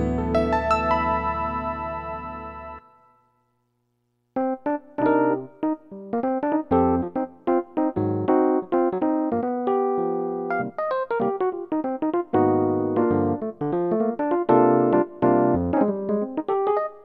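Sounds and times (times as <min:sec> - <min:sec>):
synthesizer piano chords and melody: 0:00.0 - 0:03.3, 0:04.4 - 0:17.0.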